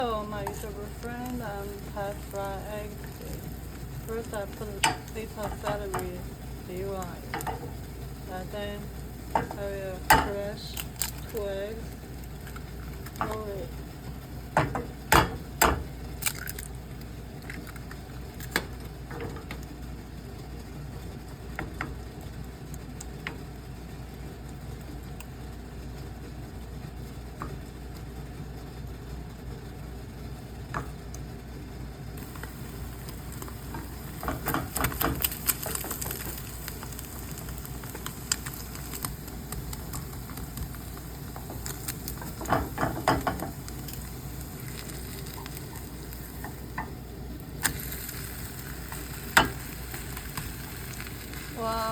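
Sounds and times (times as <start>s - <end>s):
eggs sizzling in a pan: 0.0s - 51.9s.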